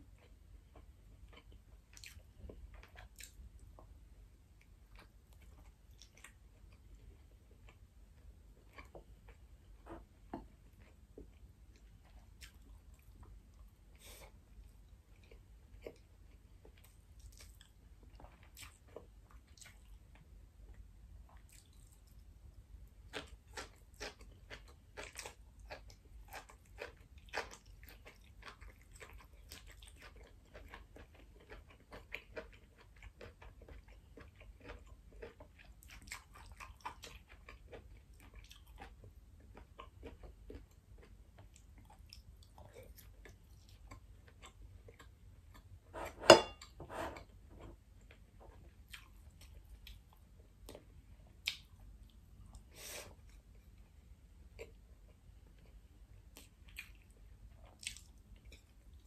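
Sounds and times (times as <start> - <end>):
person chewing food: 0.0 - 22.3, 23.0 - 59.0.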